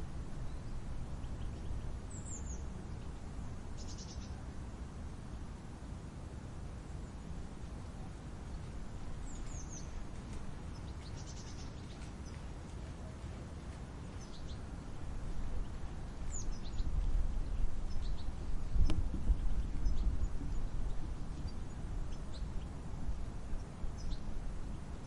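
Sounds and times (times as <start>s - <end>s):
wind: 0.0s - 25.0s
small birds chirping: 0.4s - 4.5s, 8.0s - 25.0s.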